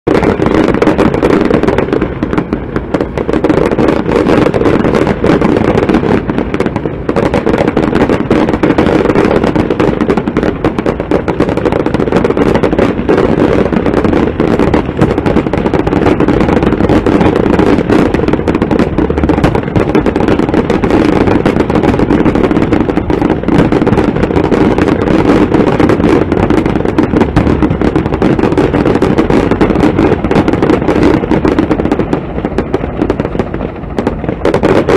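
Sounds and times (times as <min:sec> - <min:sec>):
fireworks popping and crackling: 0:00.0 - 0:34.9.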